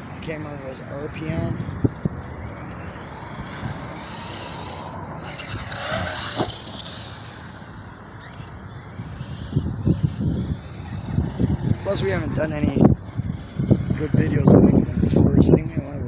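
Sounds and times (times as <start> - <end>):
rc truck motor whining: 0.0 - 16.0.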